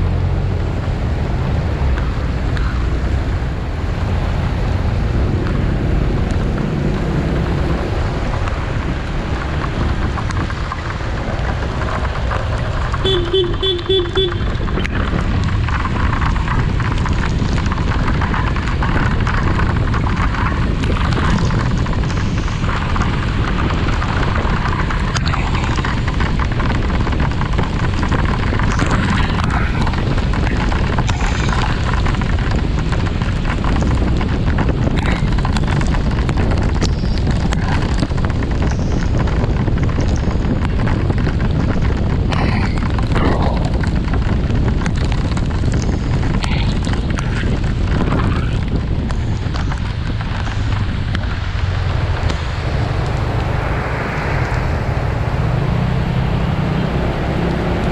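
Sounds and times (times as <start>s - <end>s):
scooter and road noise: 0.0s - 57.9s
wind buffeting microphone: 0.0s - 57.9s.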